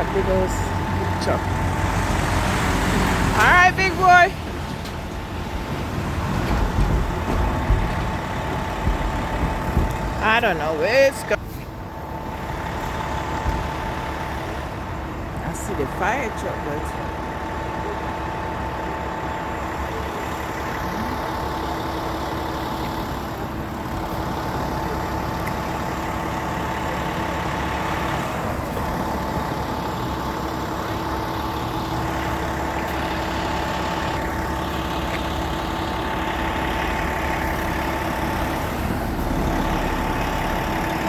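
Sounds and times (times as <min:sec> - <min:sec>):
fire truck engine idling: 0:00.0 - 0:41.0.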